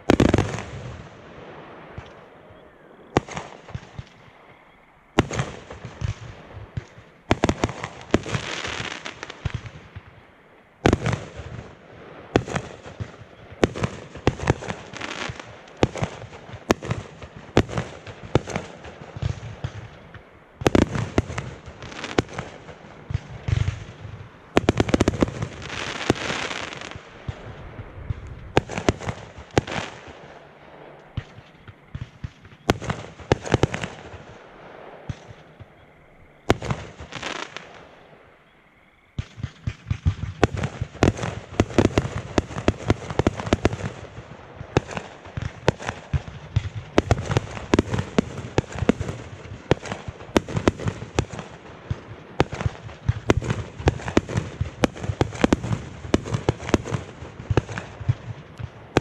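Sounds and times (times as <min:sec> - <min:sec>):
fireworks bursting: 0:00.0 - 0:38.4, 0:39.1 - 0:59.0.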